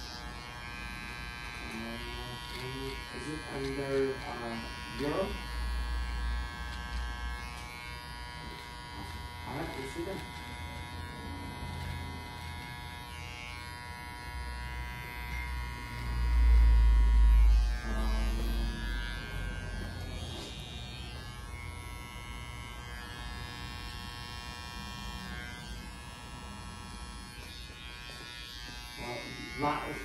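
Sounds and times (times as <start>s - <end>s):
electric hair trimmer buzzing: 0.0s - 30.0s.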